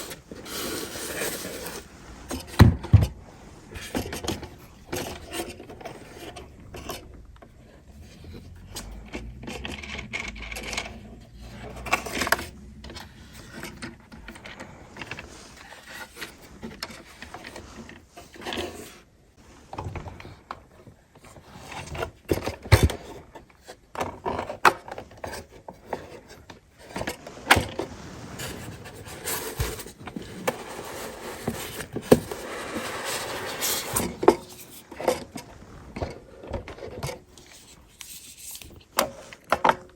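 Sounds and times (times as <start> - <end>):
rubbing and scraping of handled objects: 0.0 - 39.9.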